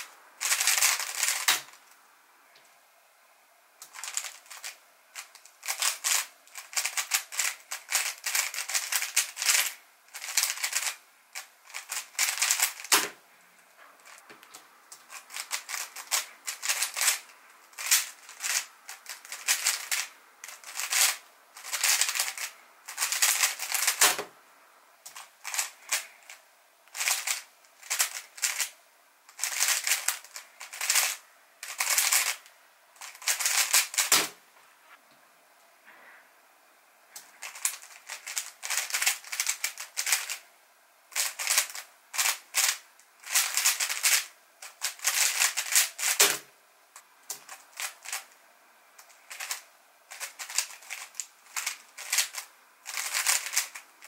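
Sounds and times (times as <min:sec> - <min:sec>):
puzzle cube clacking turns: 0:00.0 - 0:01.8, 0:03.8 - 0:13.2, 0:14.0 - 0:24.3, 0:25.0 - 0:28.7, 0:29.3 - 0:34.4, 0:37.2 - 0:40.4, 0:41.1 - 0:46.5, 0:47.3 - 0:48.3, 0:49.0 - 0:54.0.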